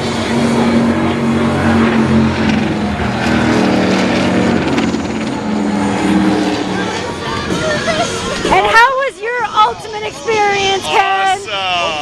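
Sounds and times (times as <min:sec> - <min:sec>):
race car engine running: 0:00.0 - 0:10.0.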